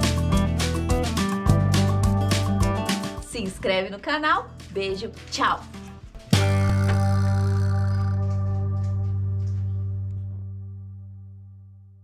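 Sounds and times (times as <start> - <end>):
background music low chord: 1.5 - 12.0.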